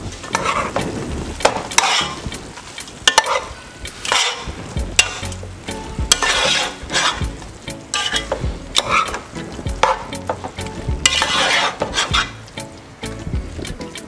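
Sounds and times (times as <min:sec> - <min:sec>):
food sizzling: 0:00.0 - 0:14.0
metal utensil scraping a pot: 0:00.1 - 0:12.6.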